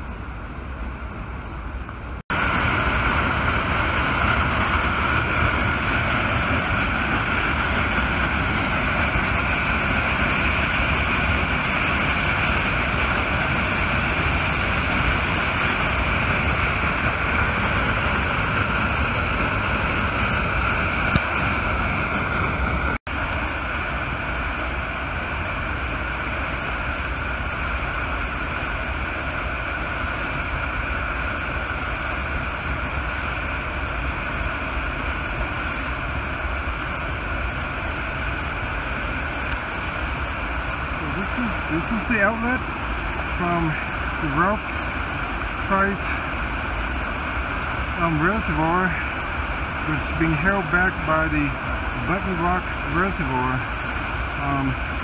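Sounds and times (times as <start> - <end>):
water jetting and crashing: 0.6 - 55.0.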